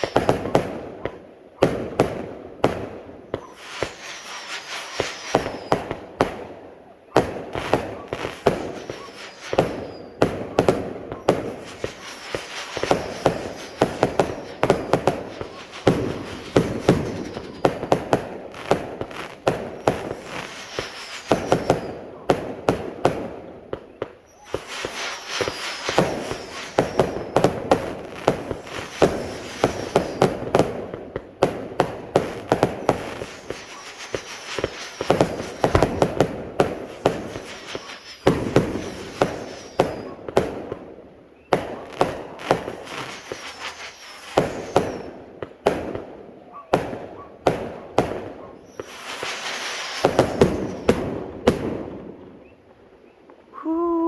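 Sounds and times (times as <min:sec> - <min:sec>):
fireworks banging in volleys: 0:00.0 - 0:52.5.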